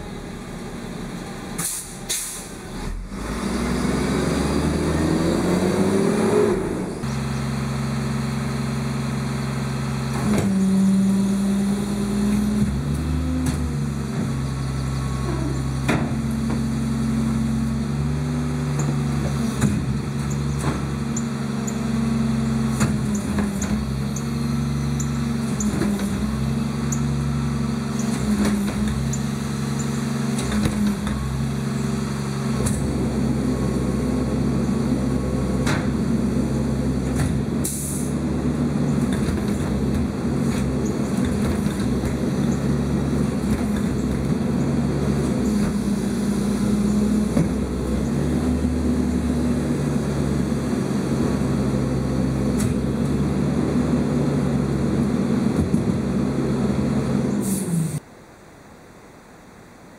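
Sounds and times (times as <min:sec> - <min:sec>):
garbage truck diesel engine: 0:00.0 - 0:58.1.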